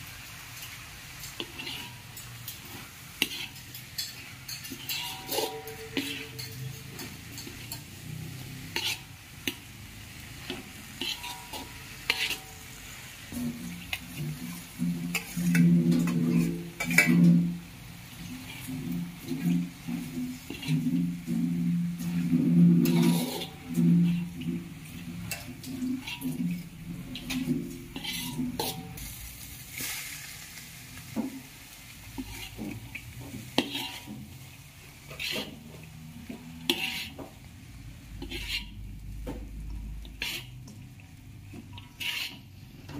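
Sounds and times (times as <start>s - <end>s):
light sizzle: 0.0s - 42.9s
metal spatula scraping wok: 0.0s - 42.9s.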